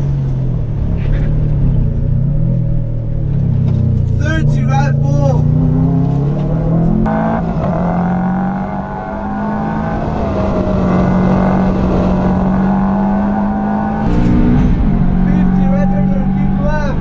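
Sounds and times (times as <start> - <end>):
car engine running hard: 0.0 - 17.0.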